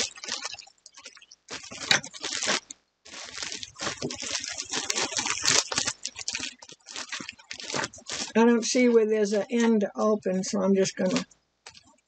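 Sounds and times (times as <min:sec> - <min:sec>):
plastic bag crinkling: 0:00.0 - 0:08.9, 0:10.9 - 0:11.9.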